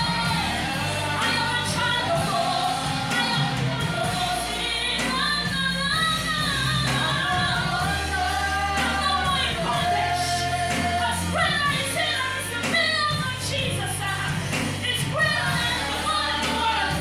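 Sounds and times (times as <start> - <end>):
instrumental backing with bass: 0.0 - 17.0
voices singing gospel song: 0.0 - 17.0.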